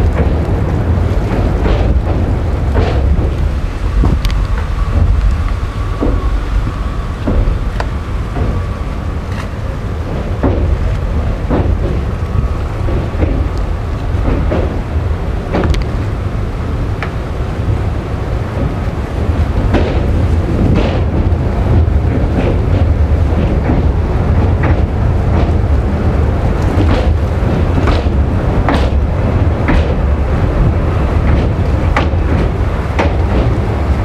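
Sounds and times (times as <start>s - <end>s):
train rumbling on bridge: 0.0s - 34.0s
wheels clanking on rails: 0.0s - 34.0s
wind buffeting microphone: 0.0s - 34.0s.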